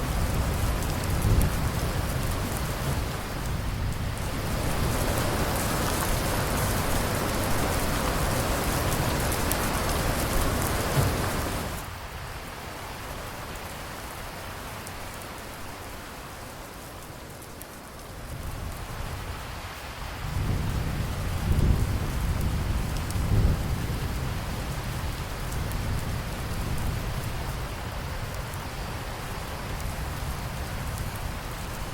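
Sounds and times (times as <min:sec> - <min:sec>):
steady rain: 0:00.0 - 0:31.9.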